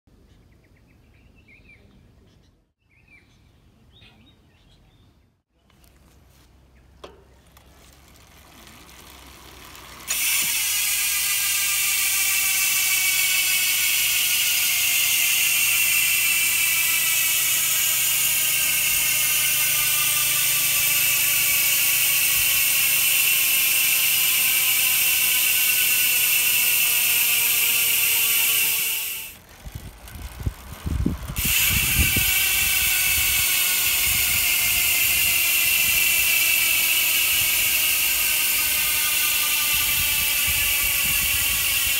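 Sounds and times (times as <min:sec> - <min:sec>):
bike freehub ratcheting buzz: 0:07.4 - 0:41.9.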